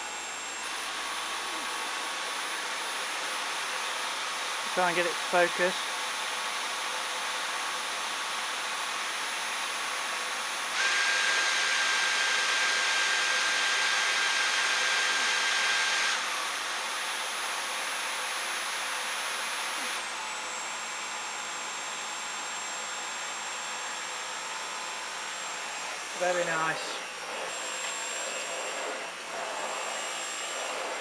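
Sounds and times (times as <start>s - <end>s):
vacuum cleaner motor whine: 0.0s - 31.0s.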